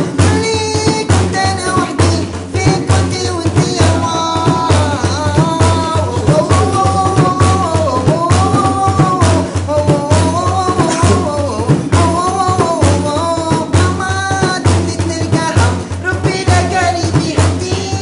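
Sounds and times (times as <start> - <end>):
frame drum beating: 0.0 - 18.0
man singing: 0.0 - 18.0.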